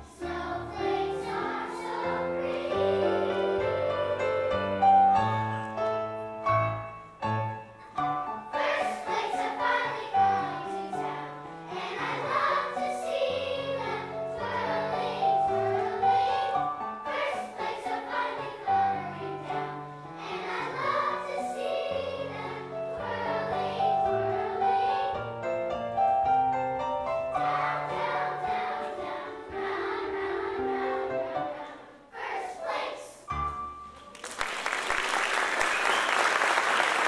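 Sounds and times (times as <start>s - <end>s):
children's choir singing: 0.0s - 6.0s, 7.6s - 26.1s, 27.0s - 33.7s.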